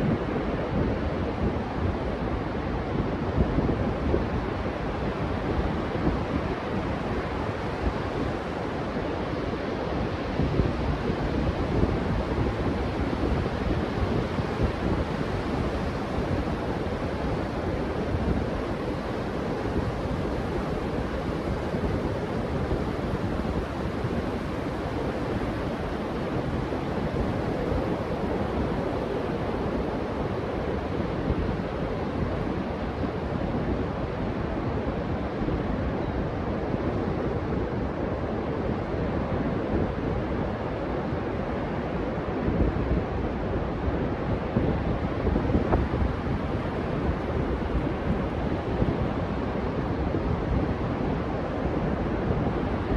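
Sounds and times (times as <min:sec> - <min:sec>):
ocean surf washing on beach: 0:00.0 - 0:52.9
wind noise on microphone: 0:00.0 - 0:52.9.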